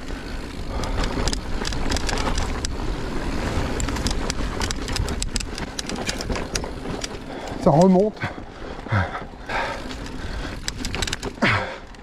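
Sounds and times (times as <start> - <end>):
bike clicks and rattles: 0.0 - 12.0
bike tyres on dirt: 0.0 - 12.0.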